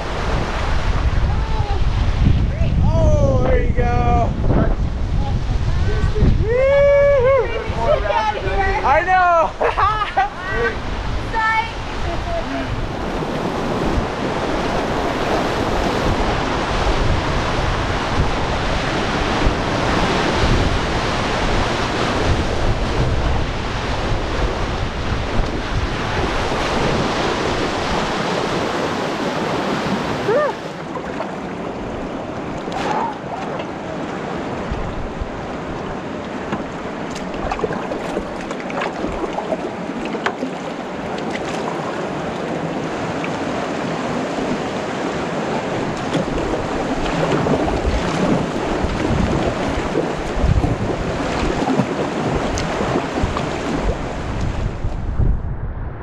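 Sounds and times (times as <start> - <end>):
wind buffeting microphone: 0.0 - 56.0
whitewater river rushing: 4.8 - 54.9.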